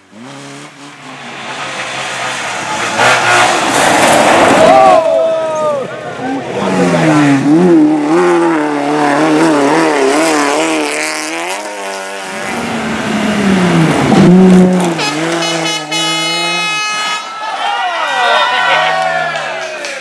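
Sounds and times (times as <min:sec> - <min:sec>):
race car engine revving: 0:00.0 - 0:05.1, 0:06.1 - 0:17.2.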